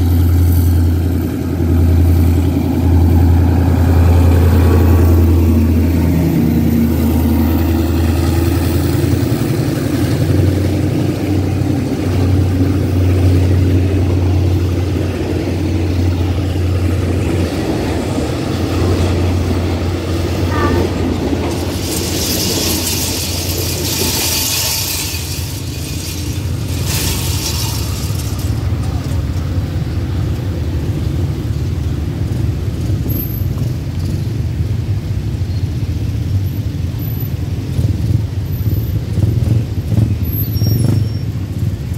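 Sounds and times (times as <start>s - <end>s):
hissing rush from train: 0.0s - 35.3s
diesel locomotive engine hum: 0.0s - 41.9s
train coaches rumbling on rails: 0.0s - 41.9s.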